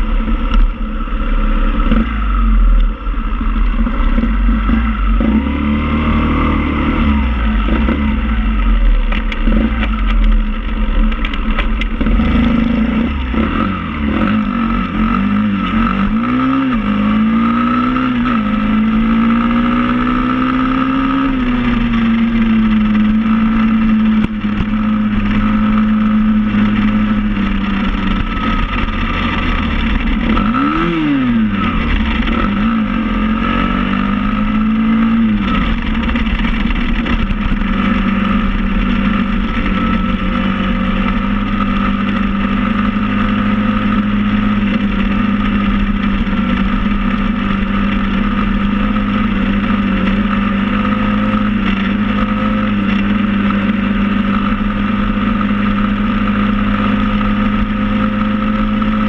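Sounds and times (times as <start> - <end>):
motorbike engine running: 0.0 - 59.0.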